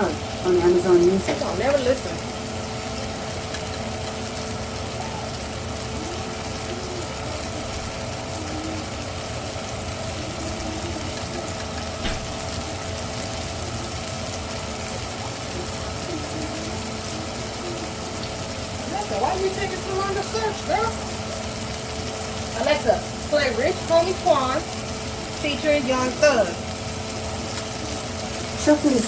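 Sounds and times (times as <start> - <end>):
constant hum: 0.0 - 29.0
steak sizzling in a skillet: 0.0 - 29.0.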